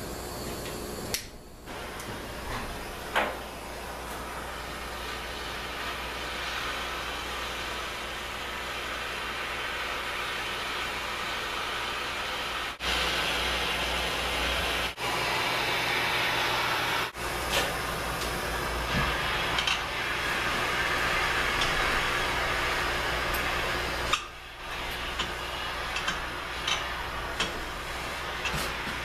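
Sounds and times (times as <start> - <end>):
propane torch hissing: 0.0 - 29.0.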